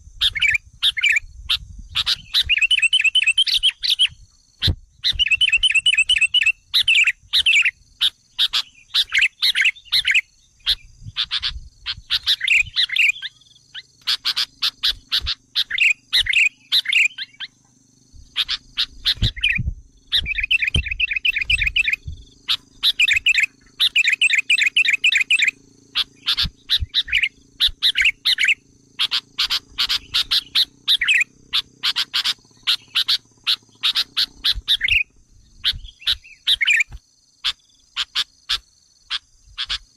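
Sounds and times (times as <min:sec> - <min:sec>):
bulbuls chattering chirps: 0:00.2 - 0:39.9.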